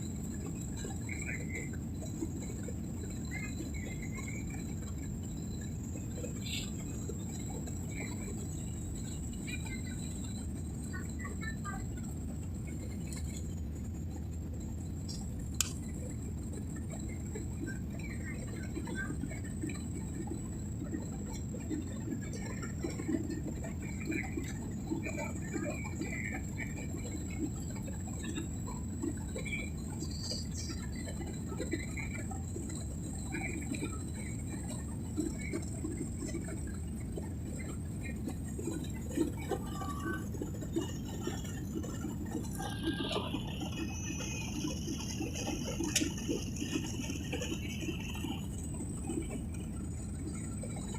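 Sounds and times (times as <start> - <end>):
faint scattered sounds: 0.0 - 50.9.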